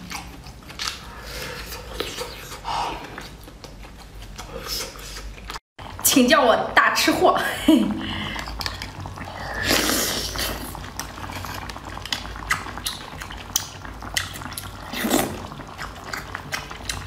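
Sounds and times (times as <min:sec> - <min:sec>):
wet slurping and chewing: 0:00.0 - 0:06.0, 0:08.3 - 0:17.0.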